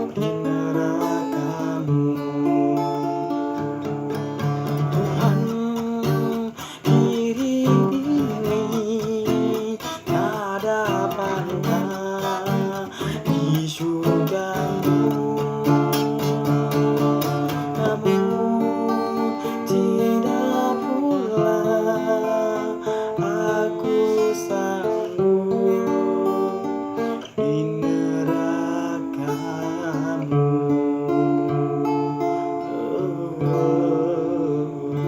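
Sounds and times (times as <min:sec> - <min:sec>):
acoustic guitar playing: 0:00.0 - 0:35.0.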